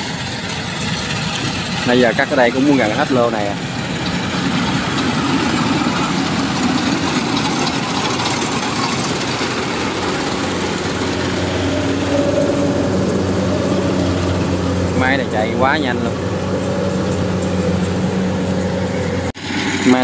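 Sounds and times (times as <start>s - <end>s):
combine harvester running: 0.0s - 20.0s
low engine hum: 0.0s - 20.0s.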